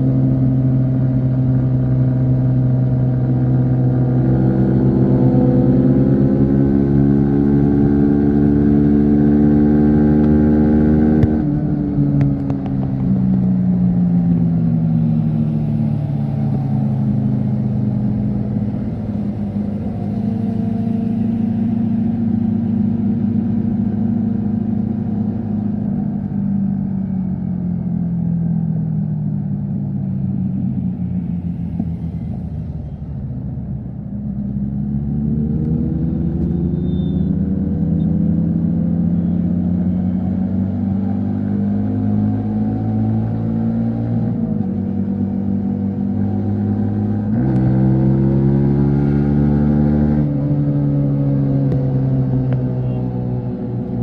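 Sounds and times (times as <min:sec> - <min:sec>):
motorcycle engine revving: 0:00.0 - 0:27.0, 0:30.0 - 0:54.0.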